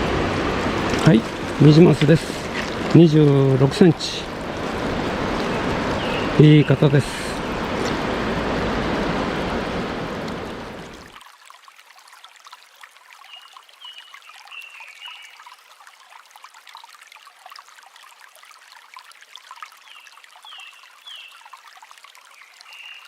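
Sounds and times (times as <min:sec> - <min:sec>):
stream trickling over rocks: 0:00.0 - 0:23.0.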